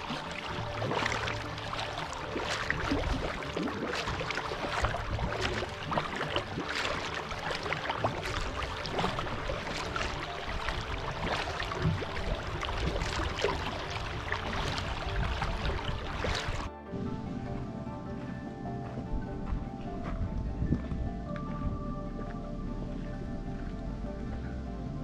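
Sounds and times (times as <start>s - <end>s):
kayak paddle splashing: 0.0s - 20.2s
water lapping against hull: 0.0s - 25.0s.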